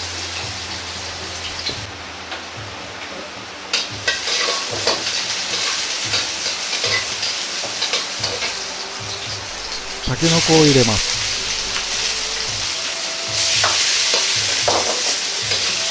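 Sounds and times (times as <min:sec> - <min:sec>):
vegetables sizzling in a wok: 0:00.0 - 0:15.9.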